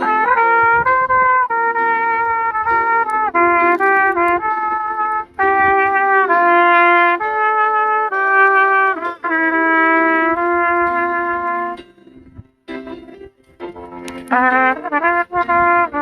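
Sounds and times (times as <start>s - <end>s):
solo trumpet slow melody: 0.0s - 11.9s, 14.0s - 16.0s.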